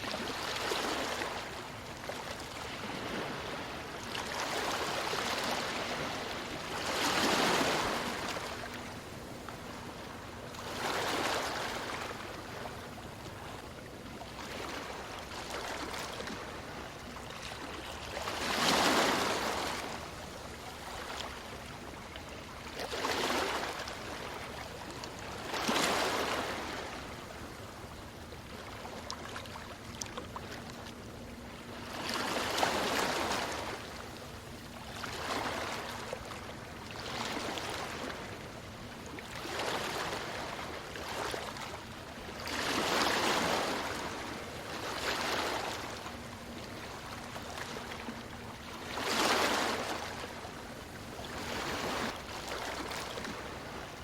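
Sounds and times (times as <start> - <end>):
small waves on stony shore: 0.0 - 54.0.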